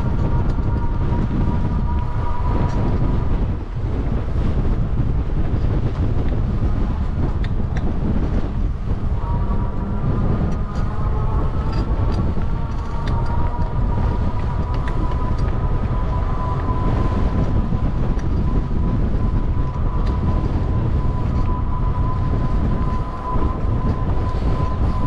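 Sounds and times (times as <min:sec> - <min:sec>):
steady whining tone: 0:00.0 - 0:25.0
wind rushing over microphone: 0:00.0 - 0:25.0.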